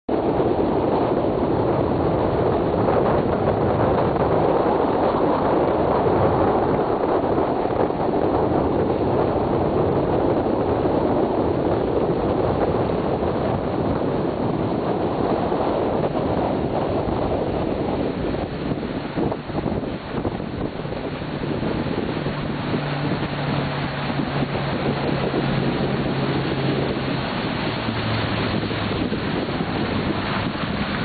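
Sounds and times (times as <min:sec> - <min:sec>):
boat drone: 0:00.1 - 0:31.0
wind buffeting microphone: 0:00.1 - 0:31.0.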